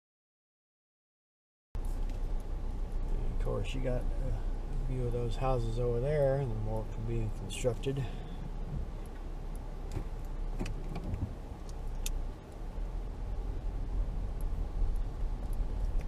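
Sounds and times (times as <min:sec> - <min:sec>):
car rolling low rumble: 0:01.8 - 0:16.0.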